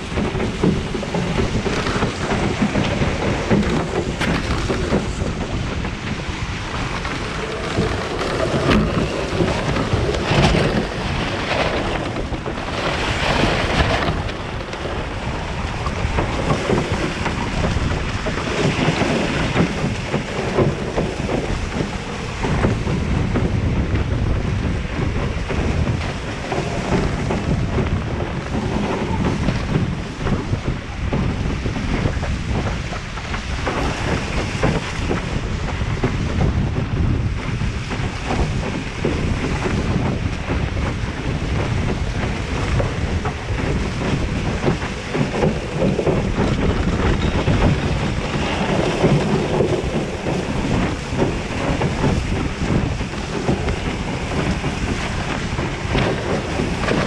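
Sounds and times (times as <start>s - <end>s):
water rushing past hull: 0.0s - 57.0s
wind buffeting microphone: 0.0s - 57.0s.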